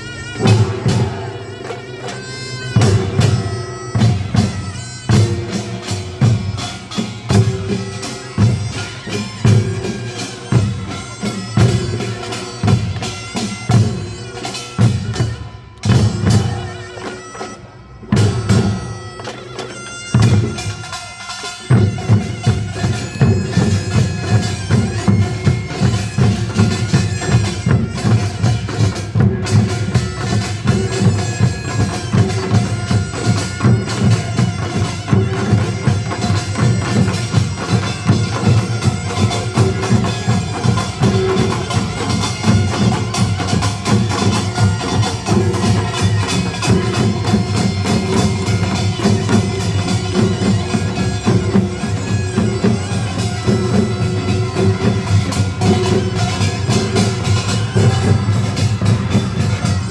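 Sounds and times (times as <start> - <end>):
gongs and drums: 0.0 - 59.9
shrill shawm melody: 0.0 - 59.9.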